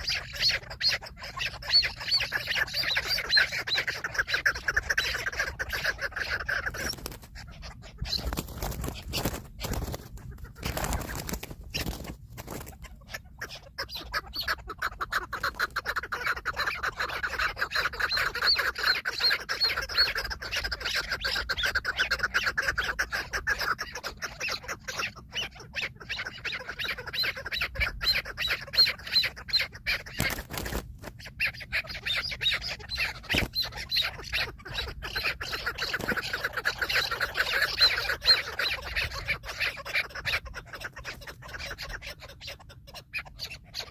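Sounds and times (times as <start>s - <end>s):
partridge chattering clucks: 0.0s - 43.9s.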